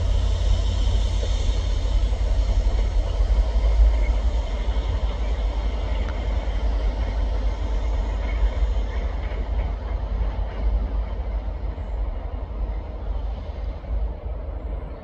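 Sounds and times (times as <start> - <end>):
diesel locomotive low rumble: 0.0 - 15.0
higher train sound: 0.0 - 15.0.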